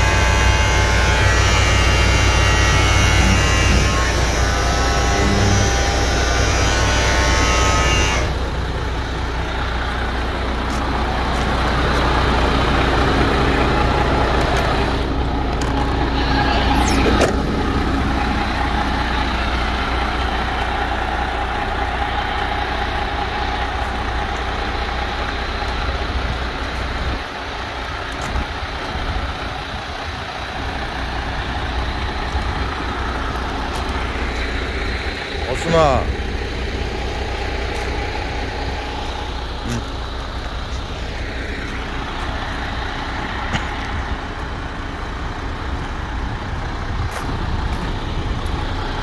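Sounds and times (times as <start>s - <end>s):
diesel truck engine idling: 0.0s - 49.0s.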